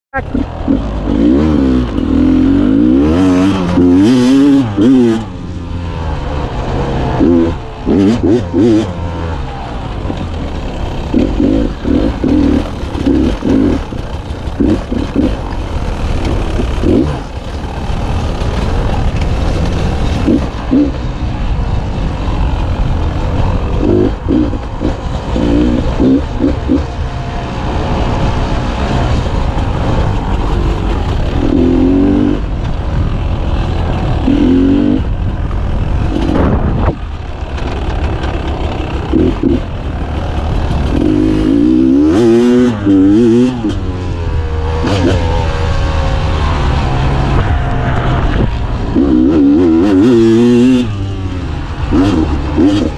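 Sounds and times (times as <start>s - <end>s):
dirt bike engine revving: 0.1s - 52.9s.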